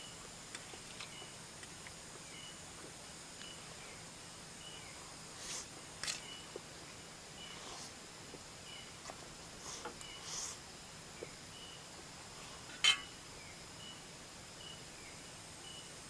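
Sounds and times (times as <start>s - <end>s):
steady high-pitched hum: 0.0s - 16.0s.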